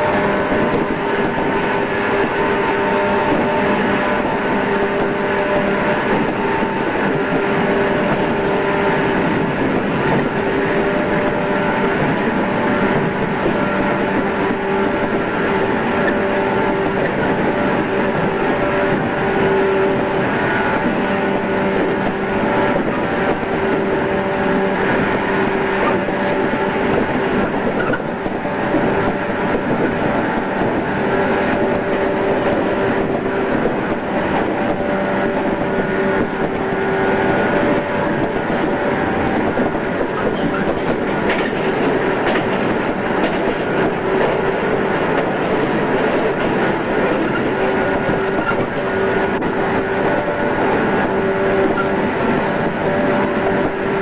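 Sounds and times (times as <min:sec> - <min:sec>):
electric train hum: 0:00.0 - 0:54.0
wheels rumbling on track: 0:00.0 - 0:54.0.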